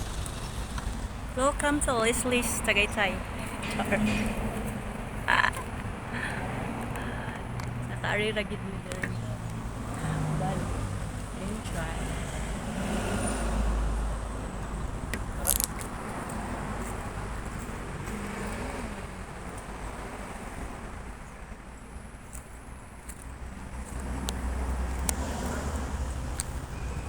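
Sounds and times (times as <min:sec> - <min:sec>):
car driving on road: 0:00.0 - 0:27.0.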